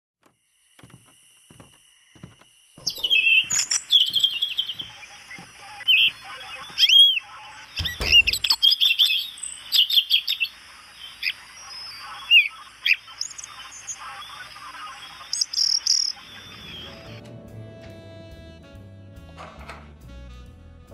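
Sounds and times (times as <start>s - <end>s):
recorded birdsong chirps: 0.3s - 17.5s.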